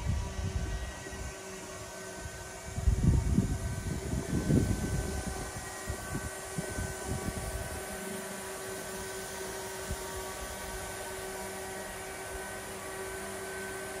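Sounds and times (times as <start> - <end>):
high whining tones: 0.0 - 14.0
machine hum: 0.0 - 14.0.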